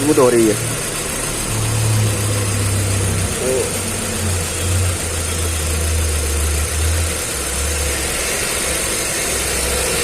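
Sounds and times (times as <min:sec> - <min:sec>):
car engine idling roughly: 0:00.0 - 0:10.0.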